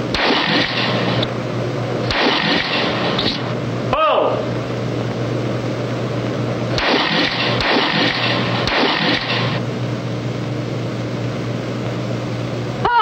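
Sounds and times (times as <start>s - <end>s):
film soundtrack hum and hiss: 0.0s - 13.0s.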